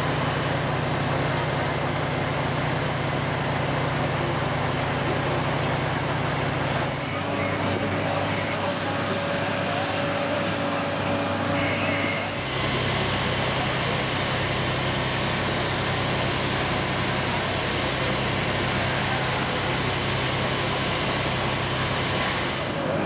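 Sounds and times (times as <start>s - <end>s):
fire truck engines running: 0.0s - 23.0s.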